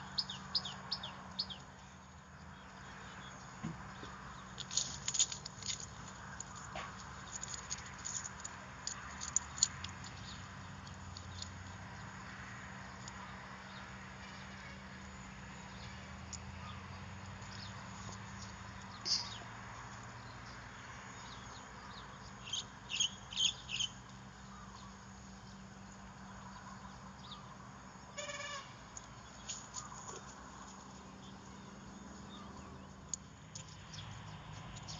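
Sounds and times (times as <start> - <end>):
faint outdoor background: 0.0 - 34.9.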